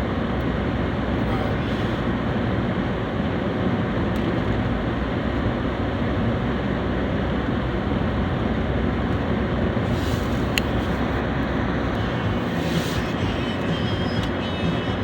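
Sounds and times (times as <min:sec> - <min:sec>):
engine and road rumble in car: 0:00.0 - 0:15.0.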